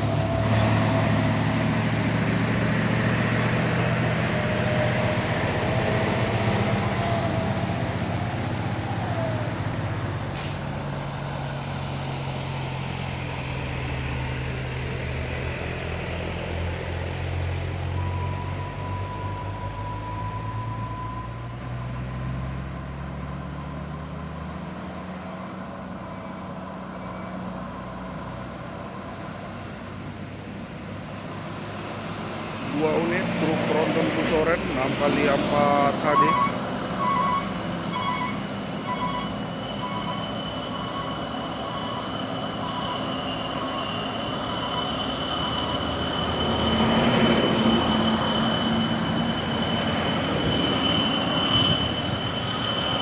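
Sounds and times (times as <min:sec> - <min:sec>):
diesel truck engine under load: 0:00.0 - 0:53.0.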